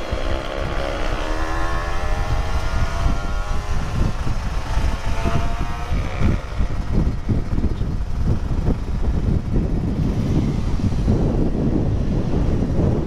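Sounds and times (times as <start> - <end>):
motorcycle engine revving: 0.0 - 13.0
wind buffeting microphone: 0.0 - 13.0.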